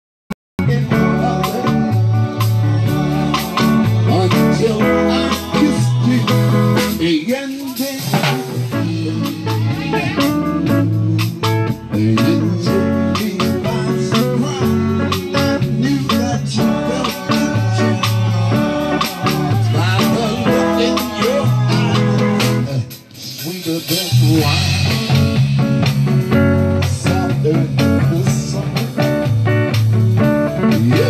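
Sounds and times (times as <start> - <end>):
live band music: 0.6 - 31.0.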